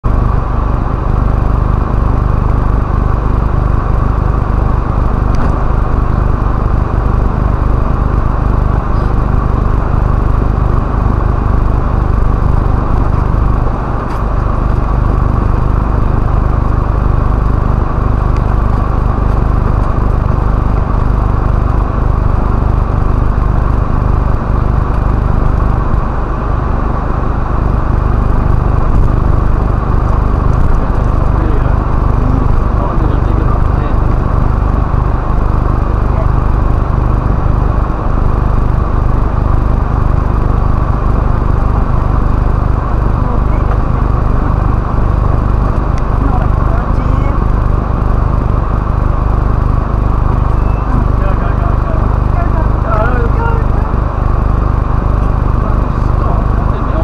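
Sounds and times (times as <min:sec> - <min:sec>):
truck engine drone: 0:00.0 - 0:57.0.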